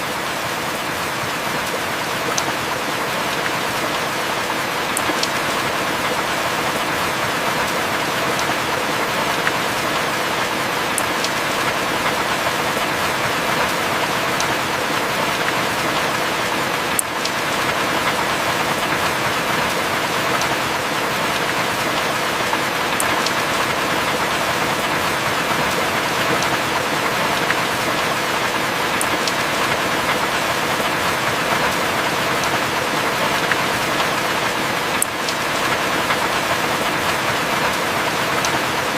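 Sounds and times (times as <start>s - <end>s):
heavy rain falling: 0.0s - 38.9s
faint raindrop ticks: 0.3s - 38.9s.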